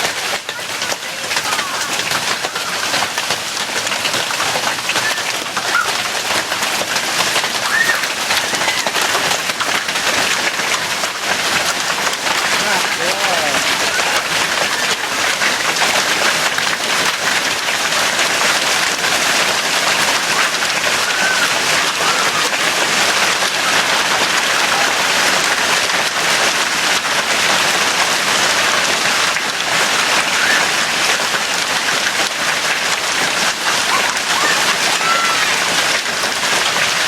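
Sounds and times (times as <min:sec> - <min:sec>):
hail pelting down: 0:00.0 - 0:37.0.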